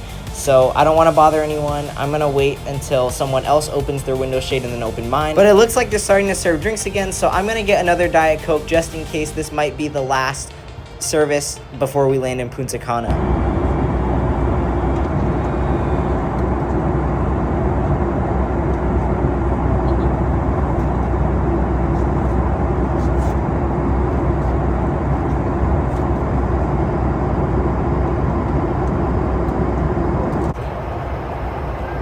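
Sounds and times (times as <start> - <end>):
airplane cabin noise: 0.0 - 32.0.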